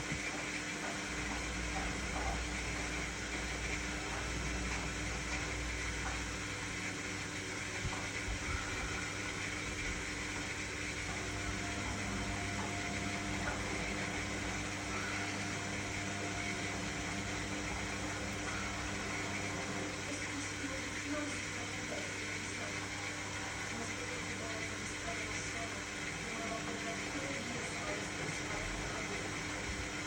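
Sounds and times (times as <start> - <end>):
washing machine hum: 0.0 - 30.0.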